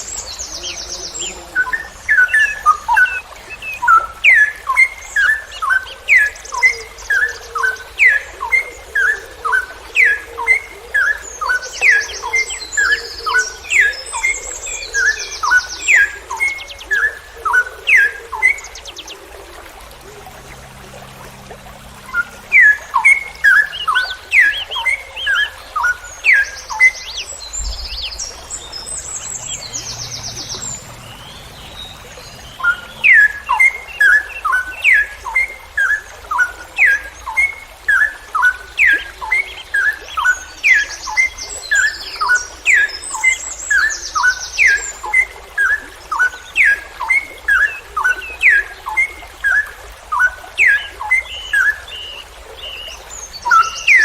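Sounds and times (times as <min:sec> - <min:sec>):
bird singing downward-sliding notes: 0:00.0 - 0:45.0.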